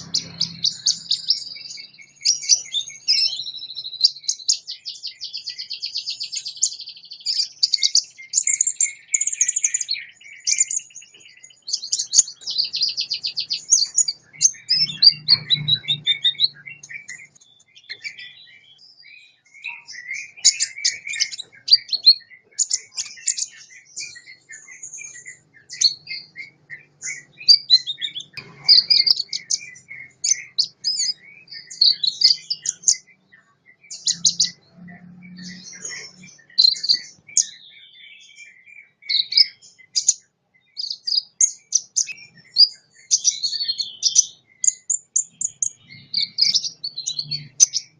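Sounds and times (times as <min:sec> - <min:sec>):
bird chirping and trilling: 0:00.0 - 0:47.9.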